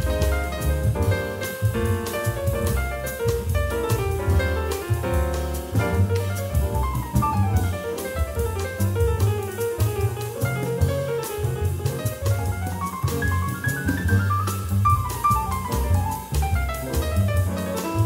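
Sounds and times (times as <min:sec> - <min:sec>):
double bass: 0:00.0 - 0:18.0
piano: 0:00.0 - 0:18.0.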